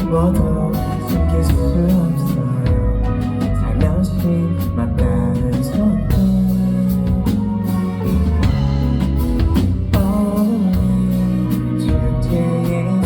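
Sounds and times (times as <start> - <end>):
bass: 0.0 - 13.0
drums: 0.0 - 13.0
guitar: 0.0 - 13.0.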